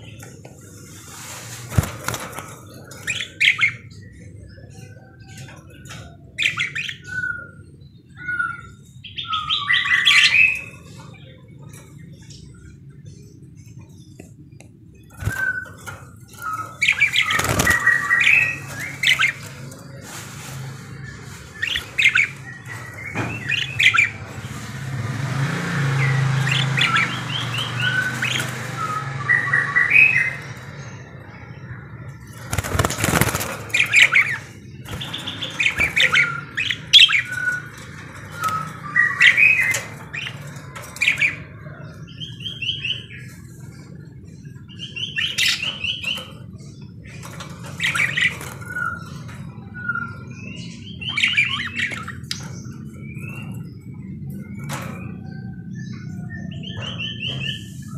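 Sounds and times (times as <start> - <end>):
budgerigars chirping: 1.7 - 7.6, 15.0 - 24.6, 26.1 - 57.9.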